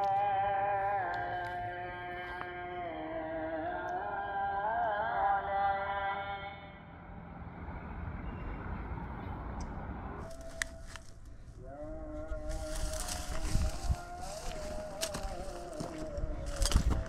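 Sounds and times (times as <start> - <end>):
person chanting: 0.0 - 7.2, 10.2 - 17.0.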